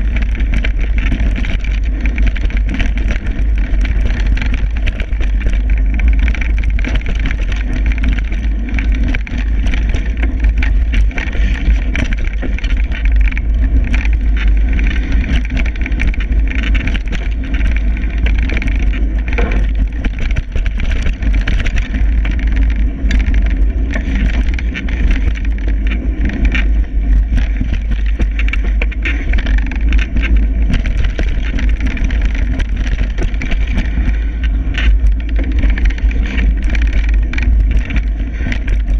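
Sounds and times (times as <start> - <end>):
bike rattling over bumps: 0.0 - 38.9
tyres on dirt: 0.0 - 38.9
wind rumble on microphone: 0.0 - 38.9.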